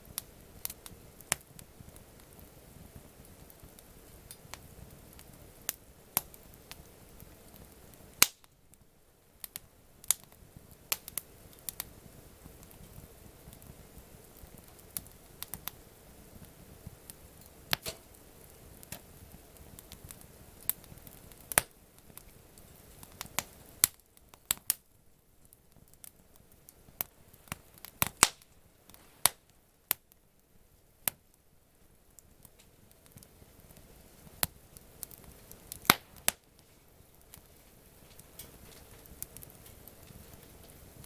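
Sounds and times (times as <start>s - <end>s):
campfire crackling: 0.0s - 41.0s
low background hiss: 0.0s - 41.0s.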